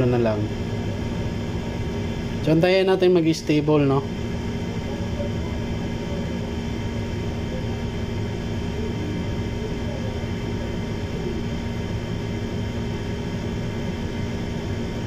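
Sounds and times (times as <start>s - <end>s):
machine hum and hiss: 0.0s - 15.0s.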